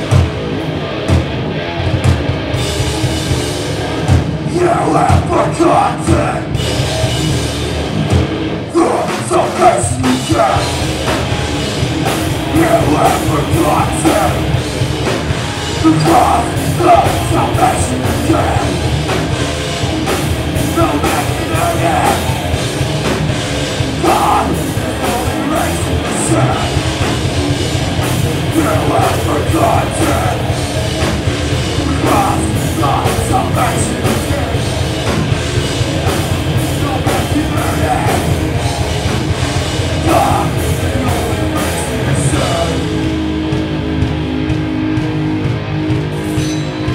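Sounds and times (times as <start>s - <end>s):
bass guitar: 0.0s - 46.9s
distorted electric guitars: 0.0s - 46.9s
pounding drum kit: 0.0s - 46.9s.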